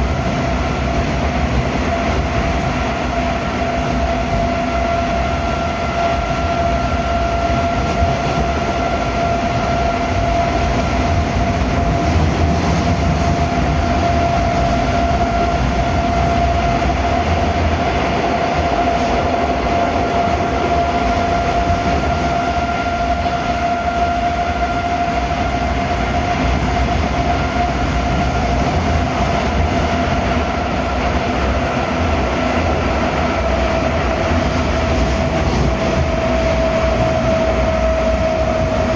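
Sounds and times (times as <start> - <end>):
metro train rumbling through tunnel: 0.0 - 38.9.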